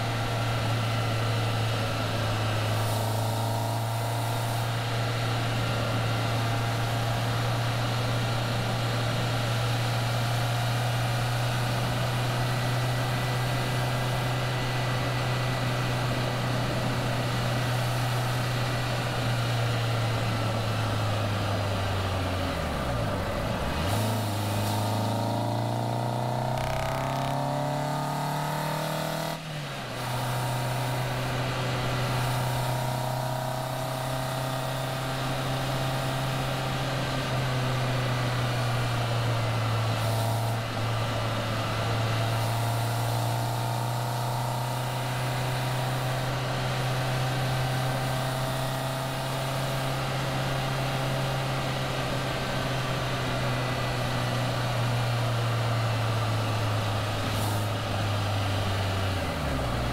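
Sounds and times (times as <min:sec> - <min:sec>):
car engine cruising: 0:00.0 - 0:59.9.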